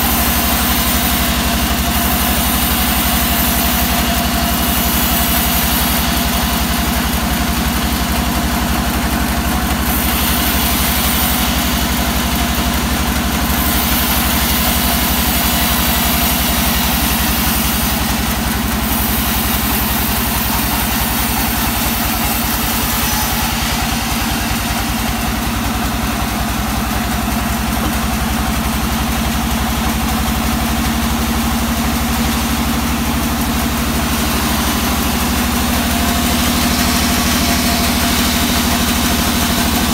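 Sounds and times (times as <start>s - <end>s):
saw blade hissing through log: 0.0s - 27.5s, 31.4s - 39.9s
sawmill machine hum: 0.0s - 39.9s.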